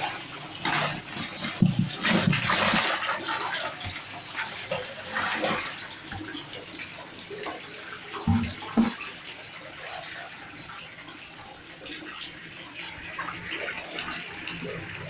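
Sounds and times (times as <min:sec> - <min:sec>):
water splashing in pond: 0:00.0 - 0:15.0.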